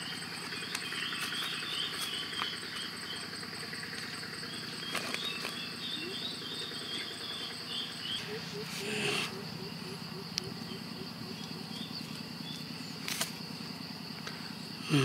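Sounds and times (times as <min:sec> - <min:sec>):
insects chirping and buzzing: 0:00.0 - 0:15.0.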